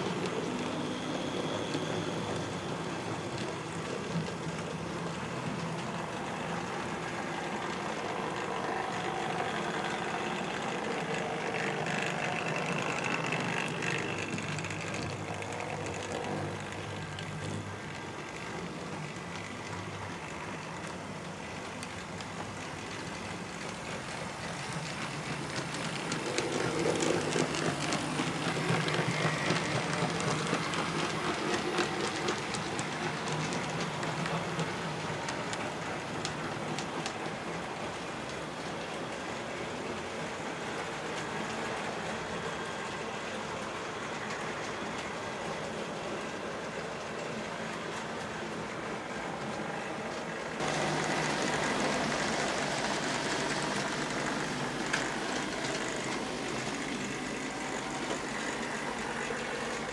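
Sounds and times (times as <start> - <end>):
fast clicking of train wheels: 0.0 - 59.9
model train motors whirring: 0.0 - 59.9.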